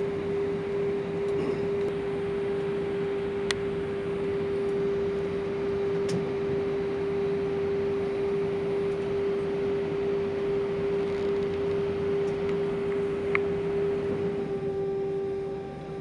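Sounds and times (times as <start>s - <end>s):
constant hum tone: 0.0s - 16.0s.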